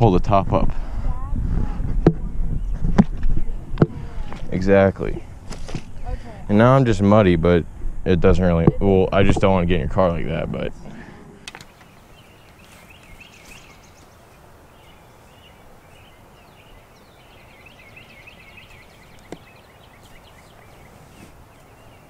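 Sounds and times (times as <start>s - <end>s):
outdoor background hiss: 0.0s - 22.0s
small birds twittering: 1.1s - 9.6s, 10.6s - 22.0s.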